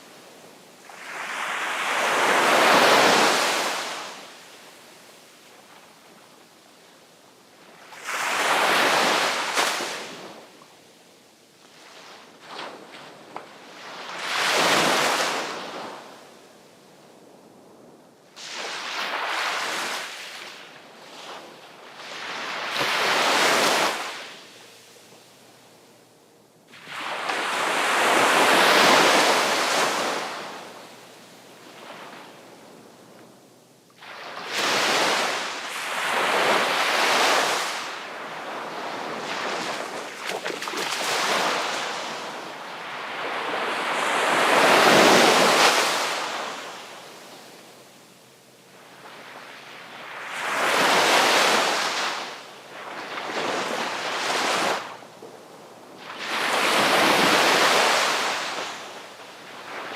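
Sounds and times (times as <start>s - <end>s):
sea waves breaking on shore: 0.0s - 4.9s, 7.6s - 10.6s, 11.7s - 16.4s, 18.4s - 25.6s, 26.7s - 33.2s, 34.0s - 59.9s.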